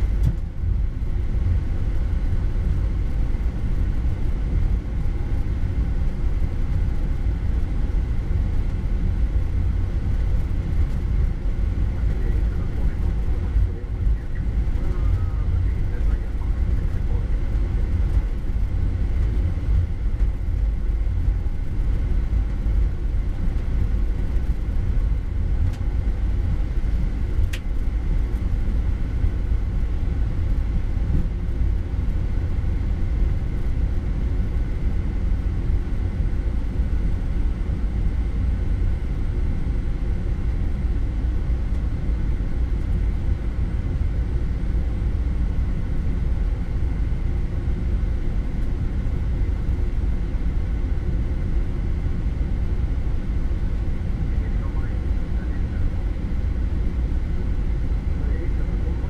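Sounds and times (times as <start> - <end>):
aircraft engines rumbling: 0.0 - 59.0
faint steady whine: 0.0 - 59.0.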